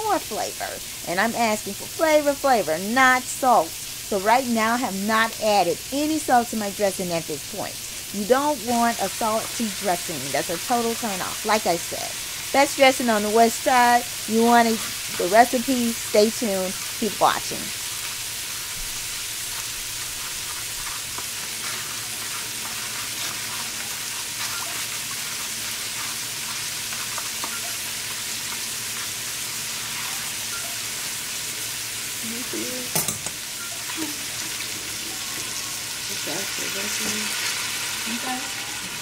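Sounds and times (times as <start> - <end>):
vegetables sizzling in a skillet: 0.0 - 39.0.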